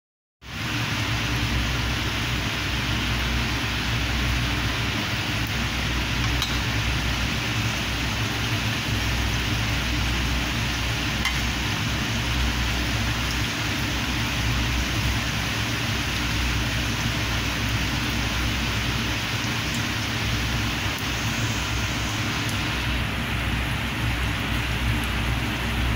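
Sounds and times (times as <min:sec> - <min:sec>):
food sizzling in hot oil: 0:00.4 - 0:25.9.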